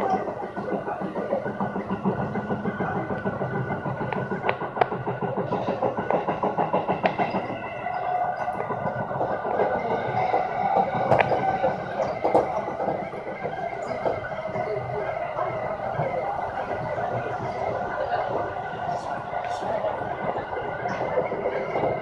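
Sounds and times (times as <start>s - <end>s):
train wheels on rail: 0.0s - 22.0s.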